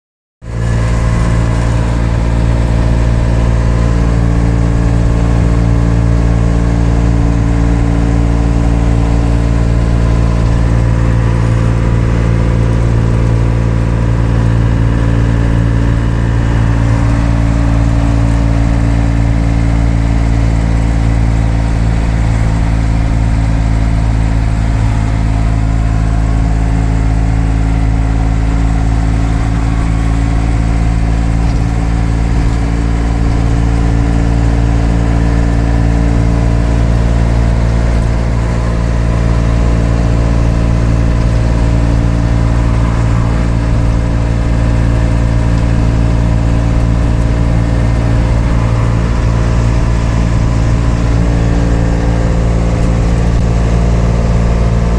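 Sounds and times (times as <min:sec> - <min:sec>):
diesel engine droning: 0:00.4 - 0:54.9.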